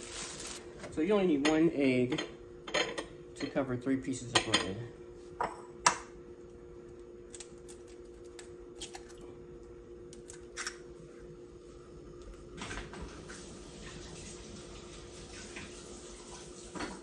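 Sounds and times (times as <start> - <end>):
steady hum: 0.0 - 14.8.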